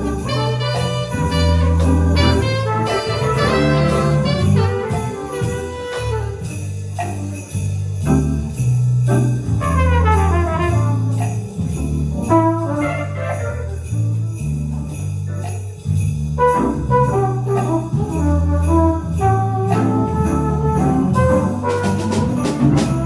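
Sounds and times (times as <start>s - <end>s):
jingling percussion hits: 0.0s - 23.0s
live jazz band: 0.0s - 23.0s.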